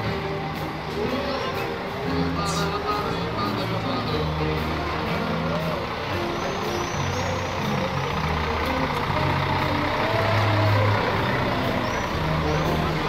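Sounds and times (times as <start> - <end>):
lorry diesel engine passing: 0.0 - 13.0.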